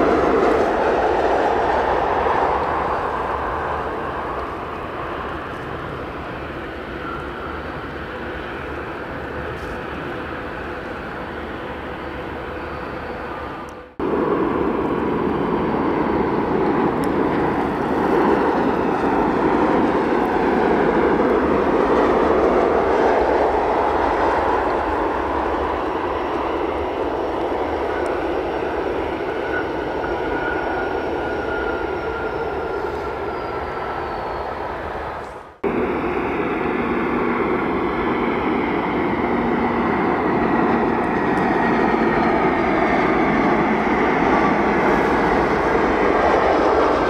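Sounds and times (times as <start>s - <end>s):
jet engines running: 0.0s - 33.4s, 34.5s - 47.0s.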